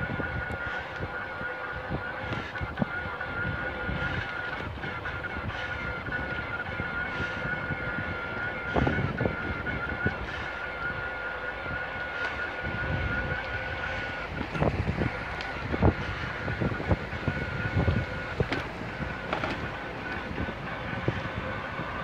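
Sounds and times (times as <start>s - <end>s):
electric motor whine: 0.0s - 22.0s
wind rumble on microphone: 0.0s - 22.0s.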